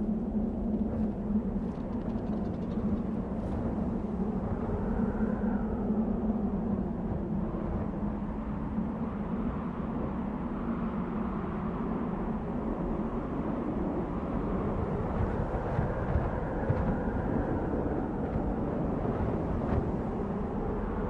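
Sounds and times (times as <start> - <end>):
wind blowing: 0.0 - 21.0.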